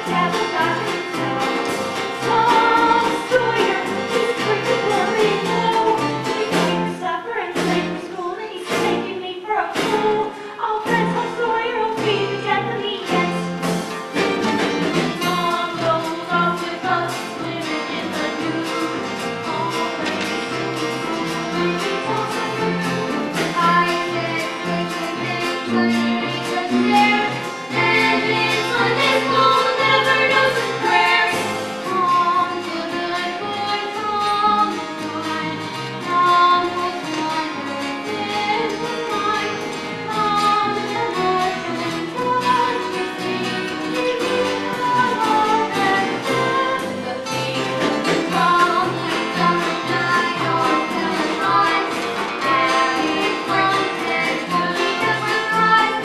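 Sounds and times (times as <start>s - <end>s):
people singing: 0.0s - 6.9s, 14.8s - 20.4s, 21.5s - 35.7s, 36.6s - 56.0s
instrumental accompaniment with a beat: 0.0s - 7.0s, 9.8s - 56.0s.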